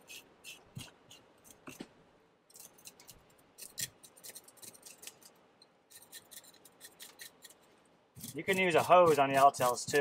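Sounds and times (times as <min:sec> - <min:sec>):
knife scraping fish scales: 0:00.0 - 0:01.8, 0:02.5 - 0:10.0.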